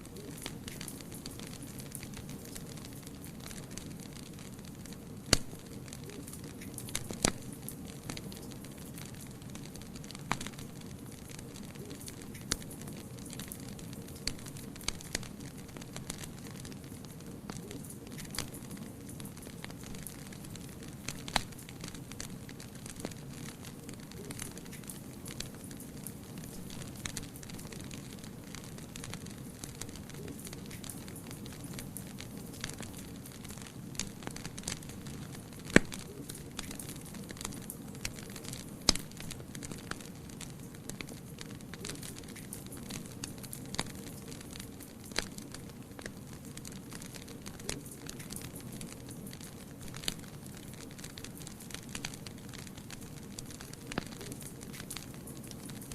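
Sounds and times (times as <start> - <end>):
fire crackles: 0.0 - 55.9
wood fire rumble and hiss: 0.0 - 55.9
sharp pops from fire: 0.1 - 55.9.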